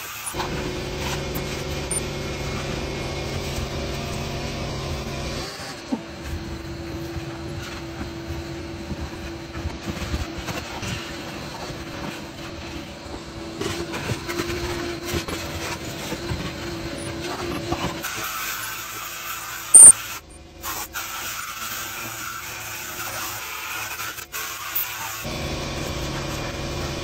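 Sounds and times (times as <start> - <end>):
vacuum cleaner whine: 0.0 - 27.0.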